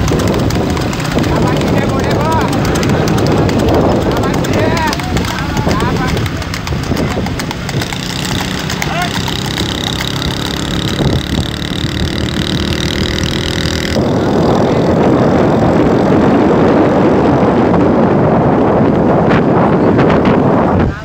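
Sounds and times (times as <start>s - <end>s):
vehicle engine humming: 0.0s - 19.8s
wind and road noise: 0.0s - 21.0s.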